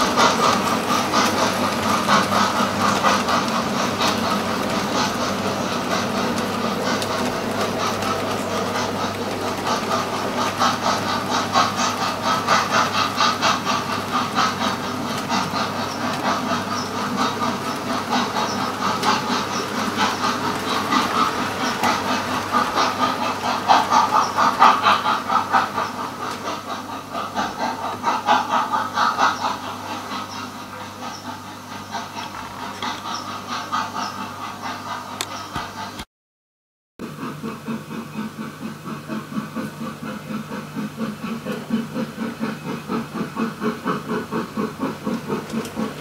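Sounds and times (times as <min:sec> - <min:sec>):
clicking over rail joints: 0:00.0 - 0:36.0, 0:38.2 - 0:46.0
model train wheels rumbling: 0:00.0 - 0:36.0, 0:37.0 - 0:46.0.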